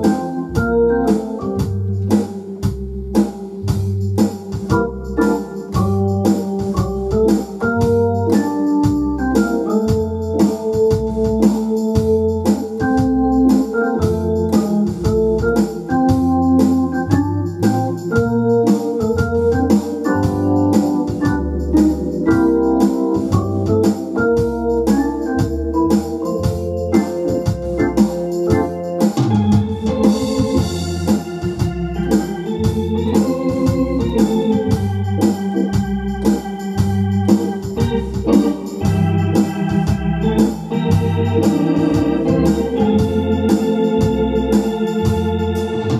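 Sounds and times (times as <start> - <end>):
organ playing fox trot: 0.0 - 45.9
rhythm accompaniment beat: 0.0 - 45.9.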